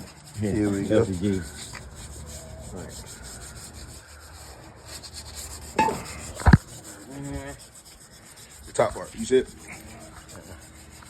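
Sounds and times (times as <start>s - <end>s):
faint rubbing and handling noise: 0.0s - 11.0s.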